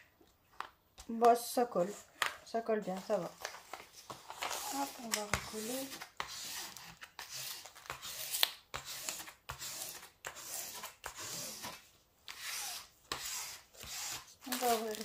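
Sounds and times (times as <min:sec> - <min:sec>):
hands rubbing plastic sheet: 0:02.8 - 0:15.0.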